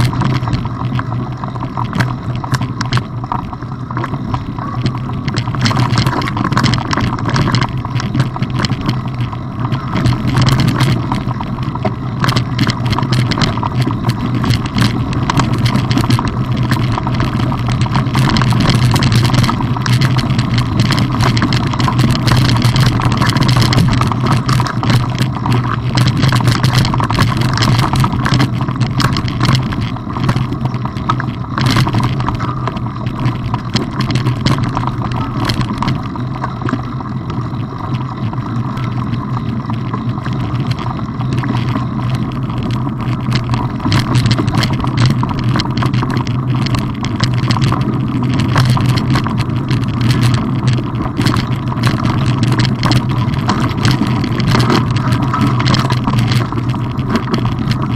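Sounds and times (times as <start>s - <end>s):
bike knocks and rattles: 0.0s - 57.9s
low rumble of bike riding: 0.0s - 57.9s.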